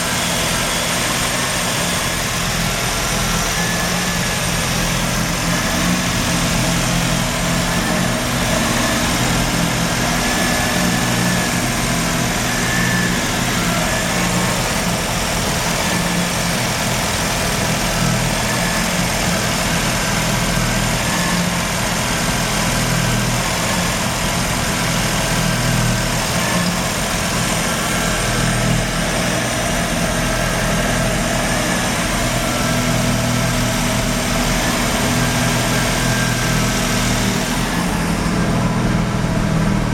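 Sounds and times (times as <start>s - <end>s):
rotary engine idling roughly: 0.0s - 39.9s.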